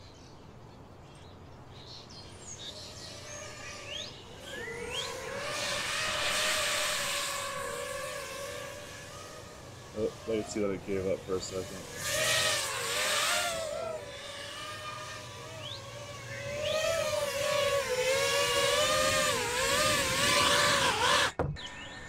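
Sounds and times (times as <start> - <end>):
quadcopter motors whining: 2.0 - 22.0.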